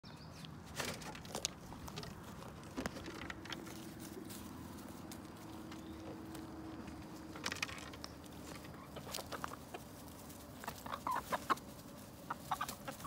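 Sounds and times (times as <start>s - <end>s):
chickens rustling in grass: 0.3s - 13.0s.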